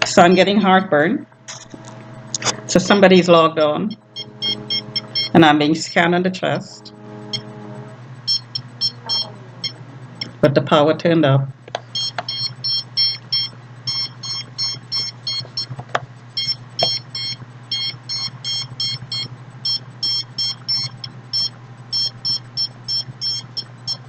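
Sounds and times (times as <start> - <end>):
detector beeping: 0.0 - 24.0
steady low hum: 0.0 - 24.0.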